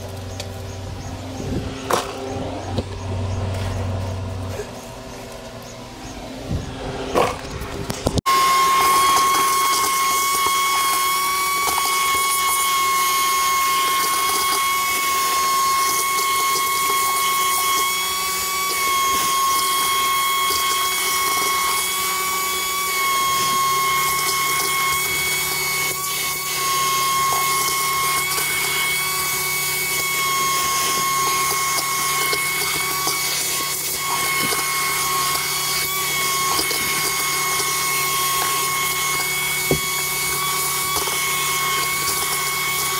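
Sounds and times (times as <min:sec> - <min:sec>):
vacuum cleaner whining: 0:00.0 - 0:42.9
hose sucking up debris: 0:07.2 - 0:42.9.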